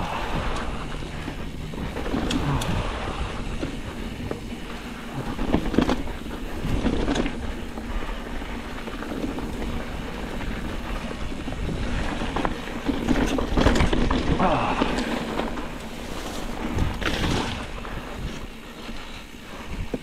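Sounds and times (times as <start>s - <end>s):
mountain bike rattling: 0.0s - 20.0s
wind buffeting microphone: 0.0s - 20.0s.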